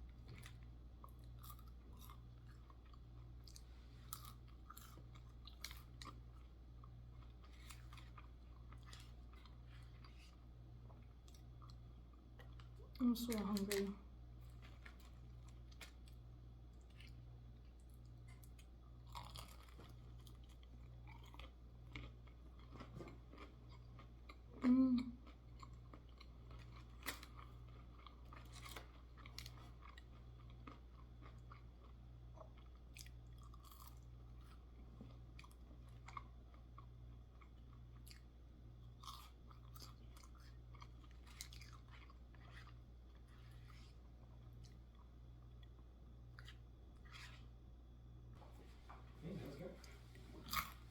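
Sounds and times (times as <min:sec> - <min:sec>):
chewing crispy food: 0:00.0 - 0:47.5, 0:49.2 - 0:50.9.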